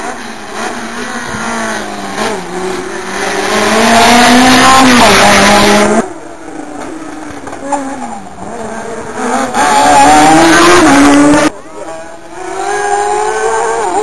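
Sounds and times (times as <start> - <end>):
rally car accelerating uphill: 0.0 - 14.0
rally car engine revving: 0.0 - 14.0.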